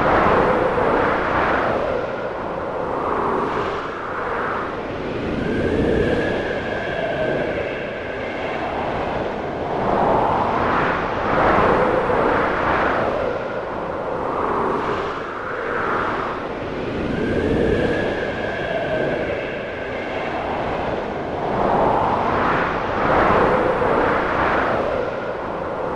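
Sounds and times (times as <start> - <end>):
gusting snowstorm wind: 0.0 - 25.9.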